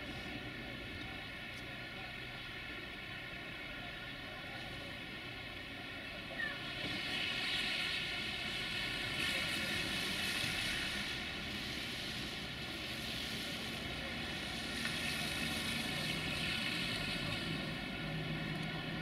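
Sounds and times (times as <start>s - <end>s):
cars driving on wet street: 0.0s - 19.0s.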